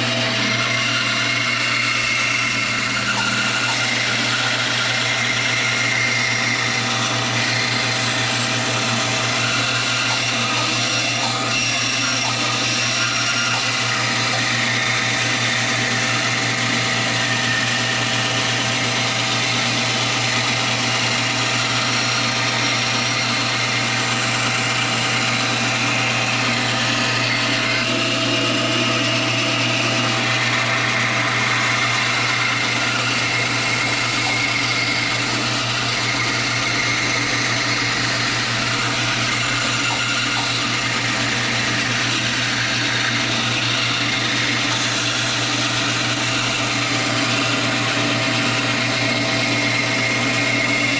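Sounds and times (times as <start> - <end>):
power tool motor whirring: 0.0 - 50.9.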